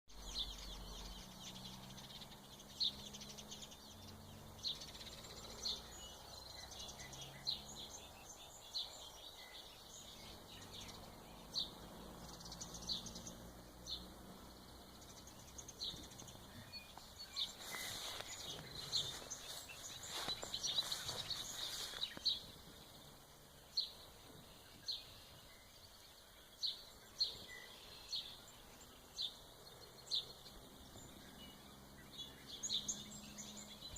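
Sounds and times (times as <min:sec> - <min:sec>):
faint steady background noise: 0:00.1 - 0:33.9
songbirds chirping: 0:00.1 - 0:33.9.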